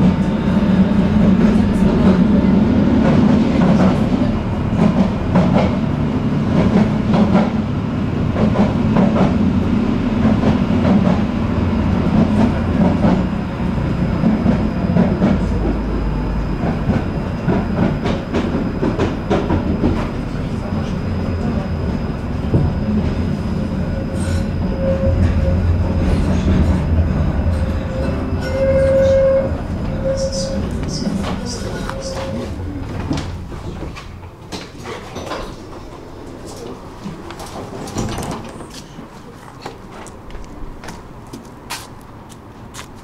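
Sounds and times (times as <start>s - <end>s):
tram low hum: 0.0s - 43.0s.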